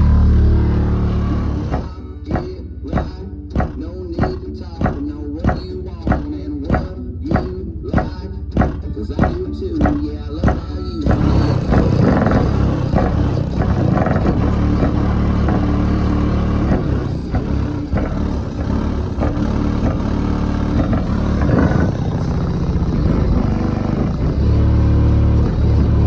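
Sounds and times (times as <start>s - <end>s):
bass-heavy music from car subwoofers: 0.0s - 26.0s.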